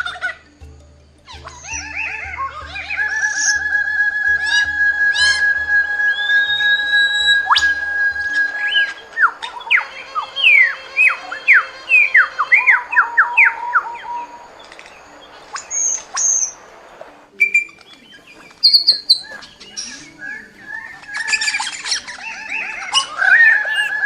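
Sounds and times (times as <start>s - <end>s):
birds chirping and twittering: 0.0s - 24.0s
bird whistles sliding downward: 1.3s - 24.0s.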